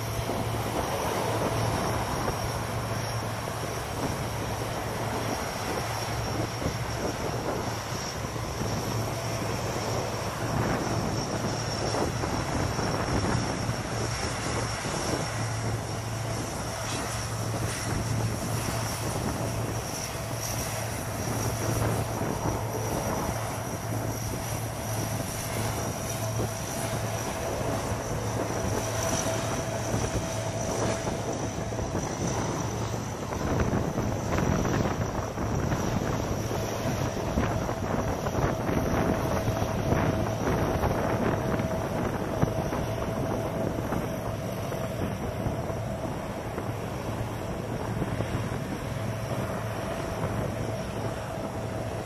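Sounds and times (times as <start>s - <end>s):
turboprop engines droning: 0.0s - 52.0s.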